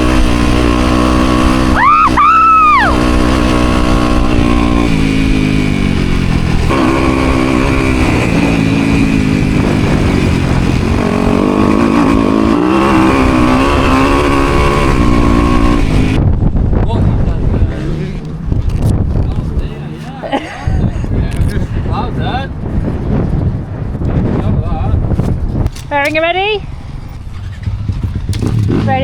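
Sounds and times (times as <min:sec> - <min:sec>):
motocross bike engine revving: 0:00.0 - 0:22.0, 0:27.0 - 0:29.0.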